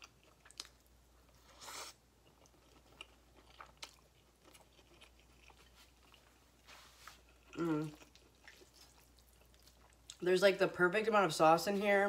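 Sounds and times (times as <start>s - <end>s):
chewing noodles: 0.0s - 10.2s.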